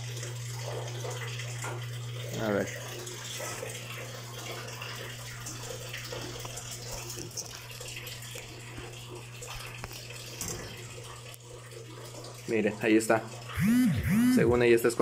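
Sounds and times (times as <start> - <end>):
aquarium filter hum: 0.0 - 15.0
running water: 0.0 - 15.0.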